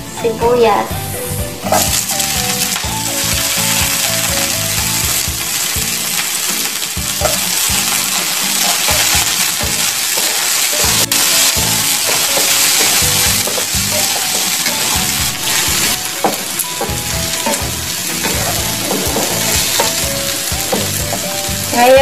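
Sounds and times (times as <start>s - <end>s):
onions sizzling in hot oil: 1.1s - 22.0s
wooden spatula stirring pan: 1.6s - 22.0s.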